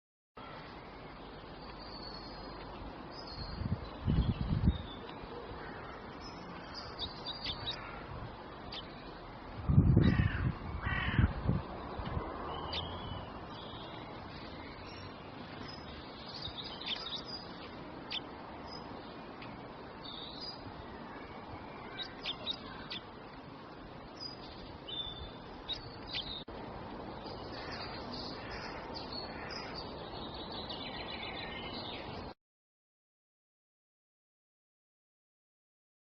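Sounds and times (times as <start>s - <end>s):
steady background hiss: 0.4s - 32.3s
small birds chirping: 0.4s - 32.4s.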